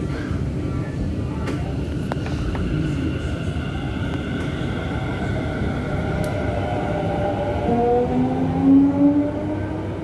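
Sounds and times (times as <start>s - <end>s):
train rumble: 0.0s - 10.0s.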